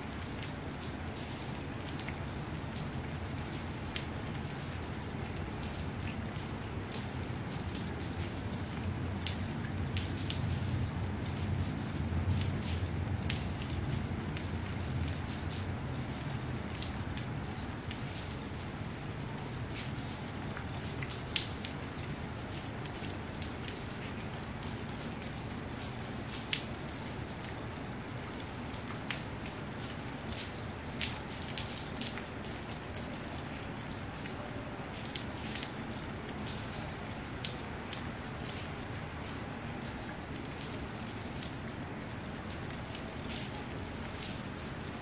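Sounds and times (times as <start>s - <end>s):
raindrops ticking close: 0.1s - 45.0s.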